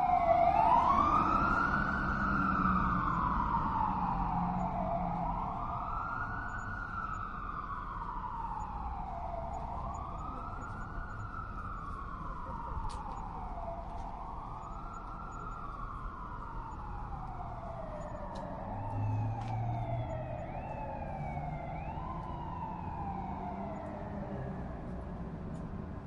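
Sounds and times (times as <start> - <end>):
higher siren quick rises: 0.0 - 25.2
siren slow wail: 0.0 - 26.0.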